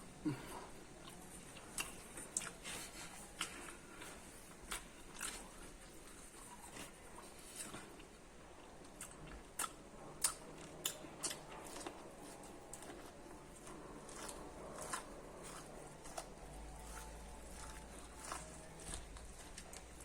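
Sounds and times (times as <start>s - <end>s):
quiet chewing: 0.0s - 20.0s.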